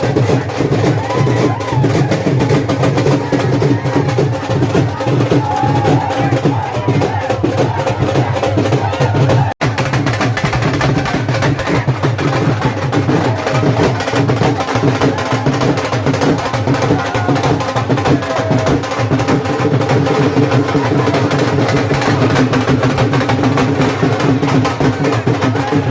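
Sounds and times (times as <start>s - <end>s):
hand percussion: 0.0s - 25.9s
music with drumming: 0.0s - 25.9s.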